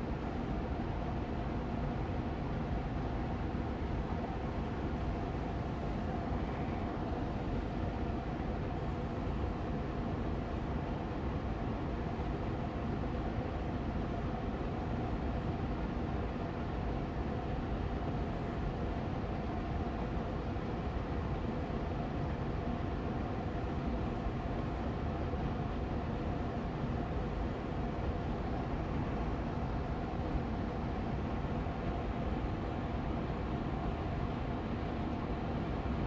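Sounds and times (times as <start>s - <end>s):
air purifier fan running: 0.0s - 36.0s.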